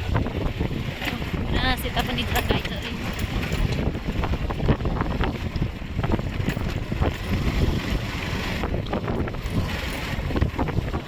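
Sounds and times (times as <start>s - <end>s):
motorcycle engine rumble: 0.0s - 11.0s
wind buffeting microphone: 0.0s - 11.0s
knocks and rattles from bumps: 0.3s - 11.0s.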